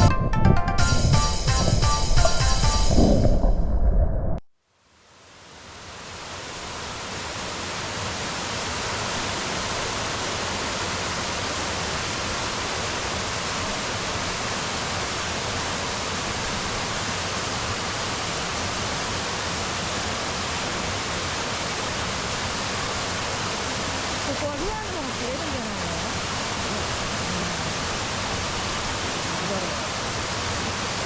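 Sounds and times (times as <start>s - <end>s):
waterfall splashing: 5.6s - 31.0s.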